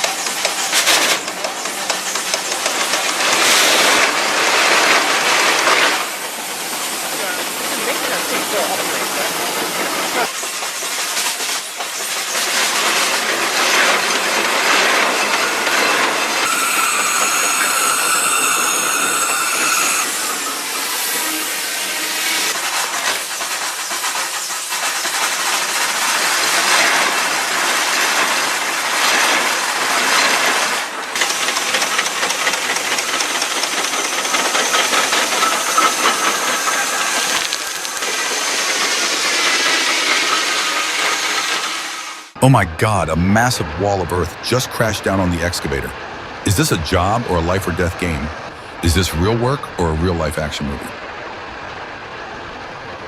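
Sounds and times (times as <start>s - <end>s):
steam engines hissing: 0.0s - 50.5s.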